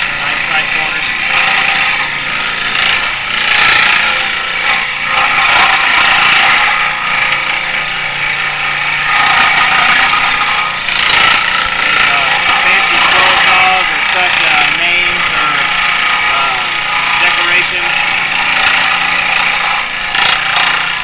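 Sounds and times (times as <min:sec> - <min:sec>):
scroll saw cutting wood: 0:00.0 - 0:21.0.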